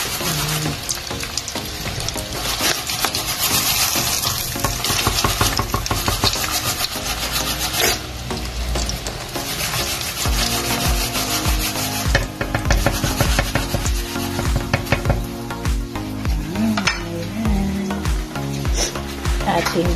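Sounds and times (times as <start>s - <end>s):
chicken sizzling in hot oil: 0.0s - 17.3s.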